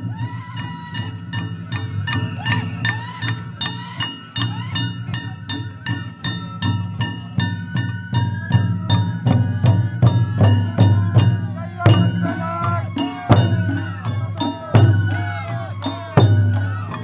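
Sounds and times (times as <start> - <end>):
low drumming band: 0.0 - 17.0
ringing metal percussion: 0.0 - 17.0.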